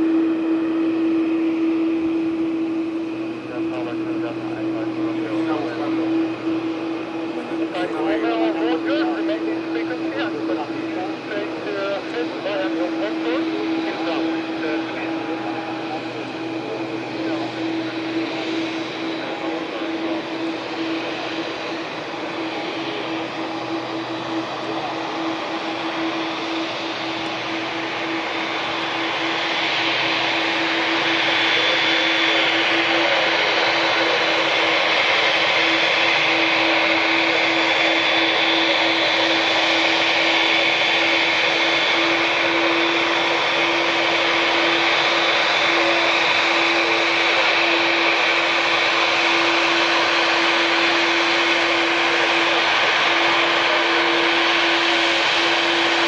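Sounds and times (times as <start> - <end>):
jet engines roaring with whine: 0.0 - 56.0.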